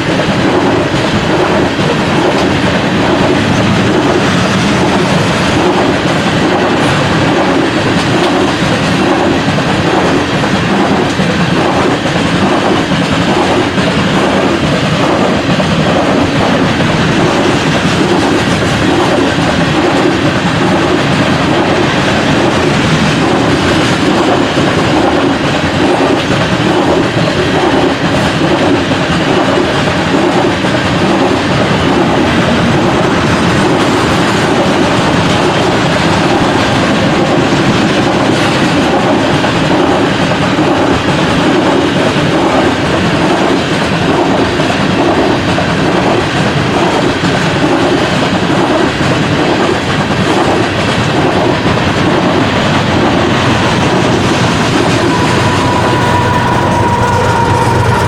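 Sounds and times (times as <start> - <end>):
repeating clatter of train: 0.0 - 58.0
train wheels rumbling on rail: 0.0 - 58.0.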